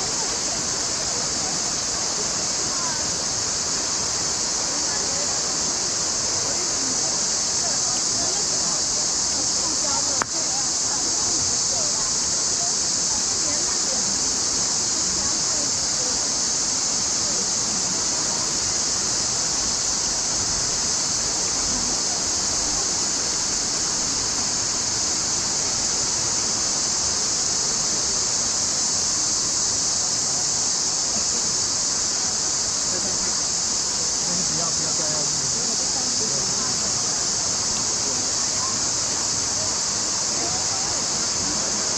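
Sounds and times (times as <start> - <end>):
creek rushing over rocks: 0.0 - 41.9.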